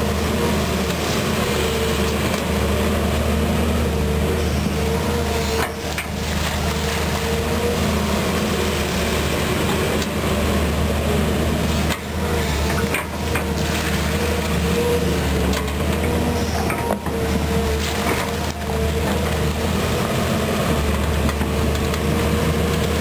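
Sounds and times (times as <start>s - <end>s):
excavator diesel engine running: 0.0s - 23.0s
hydraulic whine: 0.0s - 23.0s.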